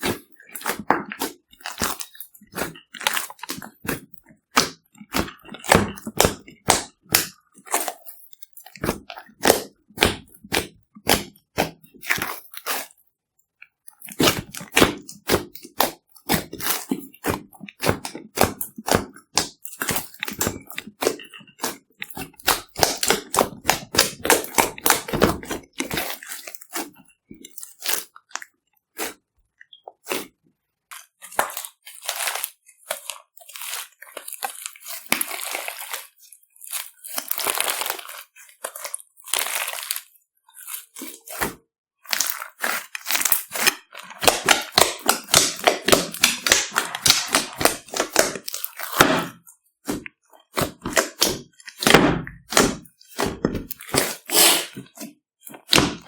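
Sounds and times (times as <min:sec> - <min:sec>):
slime crackling and popping: 0:00.0 - 0:13.0, 0:14.0 - 0:29.2, 0:31.2 - 0:56.0.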